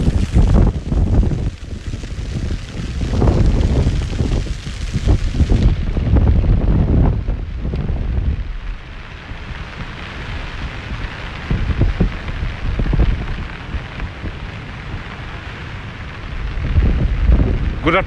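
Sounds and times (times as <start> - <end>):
rain hissing: 0.0 - 18.0
trees tossing in wind: 0.0 - 18.0
wind rumbling on microphone: 0.0 - 18.0.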